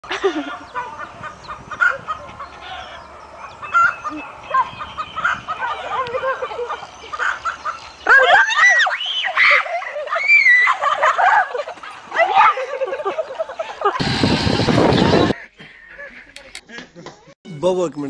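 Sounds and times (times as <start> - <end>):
chickens clucking and squawking: 0.1 - 16.4.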